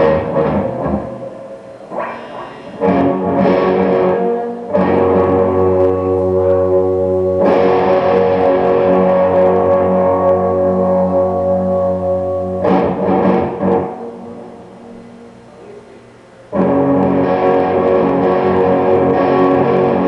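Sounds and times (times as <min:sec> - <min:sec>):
distorted electric guitar chords: 0:00.0 - 0:15.6, 0:16.4 - 0:20.0.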